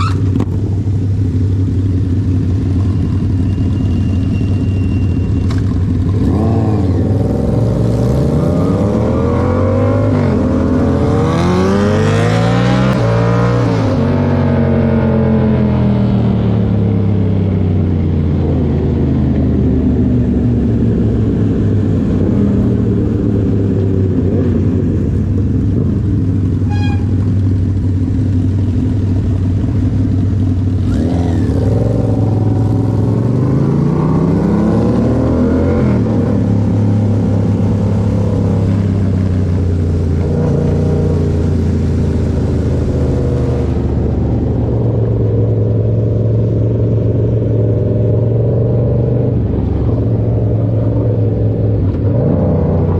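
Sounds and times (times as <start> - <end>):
motorcycle engine running: 0.0 - 12.0, 16.2 - 52.1.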